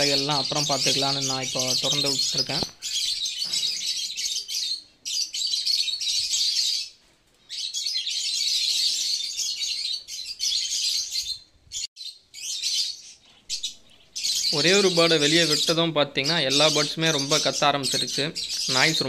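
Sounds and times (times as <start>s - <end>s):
lovebirds chattering: 0.0s - 19.0s.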